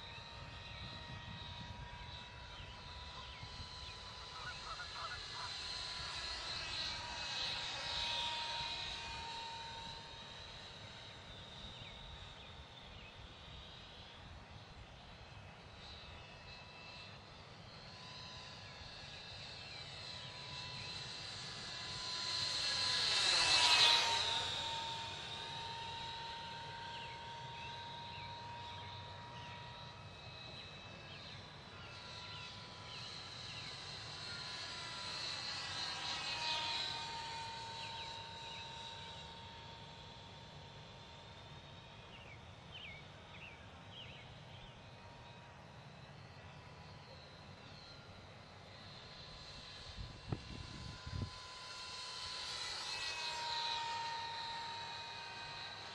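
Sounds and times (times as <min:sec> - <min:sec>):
electric ducted fan whining: 0:00.0 - 0:55.9.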